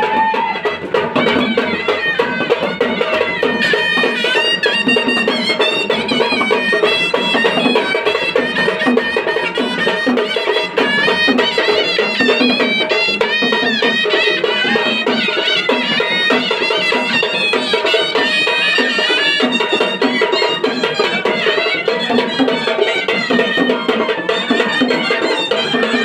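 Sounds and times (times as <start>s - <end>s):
reedy wind instrument melody: 0.0s - 26.0s
steady drum beat: 0.0s - 26.0s.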